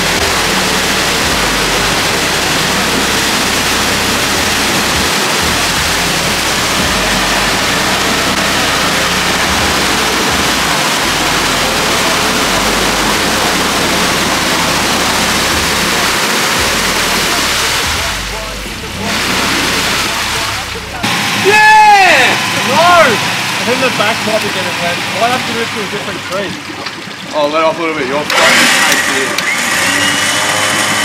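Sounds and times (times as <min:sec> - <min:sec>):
engine running under load: 0:00.0 - 0:31.0
muddy water rushing: 0:00.0 - 0:31.0.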